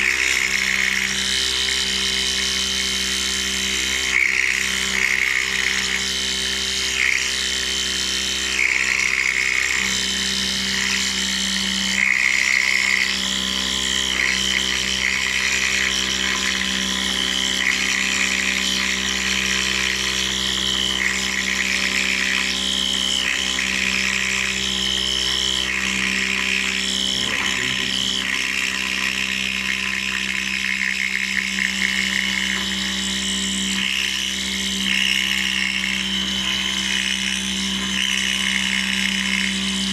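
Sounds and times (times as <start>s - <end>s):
high-pitched cutting whine: 0.0s - 39.9s
milling machine motor hum: 0.0s - 39.9s.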